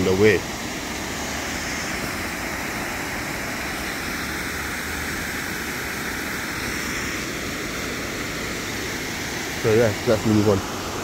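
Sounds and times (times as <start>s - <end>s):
water pouring over weir: 0.0s - 11.0s.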